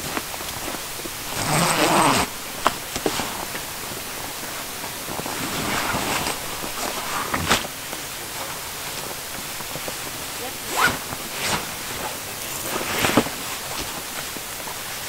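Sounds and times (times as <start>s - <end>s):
knocks and rustling of gear: 0.0s - 15.0s.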